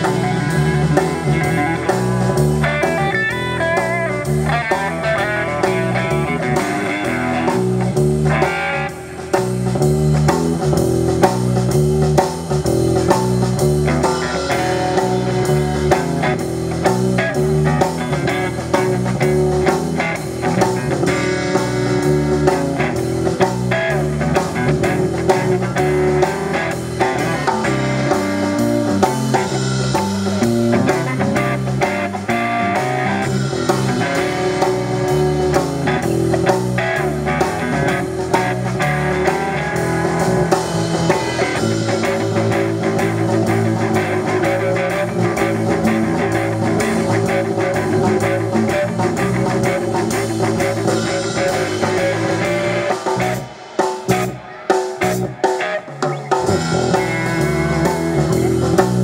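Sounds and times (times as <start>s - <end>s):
bass guitar: 0.0s - 59.0s
drum kit: 0.0s - 59.0s
electric guitar lead lines: 0.0s - 59.0s.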